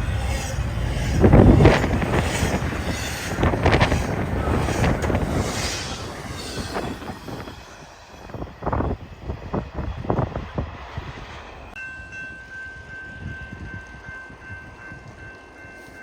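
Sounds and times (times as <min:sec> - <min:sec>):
train cars clanking: 0:00.0 - 0:15.9
freight train rumbling past: 0:00.0 - 0:16.0.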